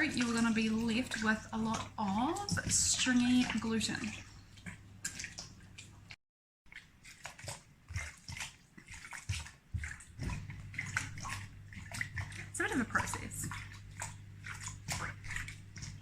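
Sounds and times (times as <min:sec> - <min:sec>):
dough sloshing and squelching in water: 0:00.0 - 0:16.0.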